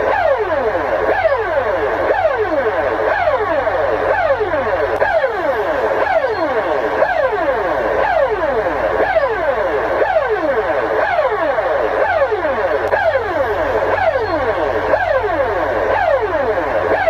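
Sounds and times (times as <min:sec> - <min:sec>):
downward sweeping alarm tones: 0:00.0 - 0:17.0
low steady hum: 0:00.0 - 0:17.0.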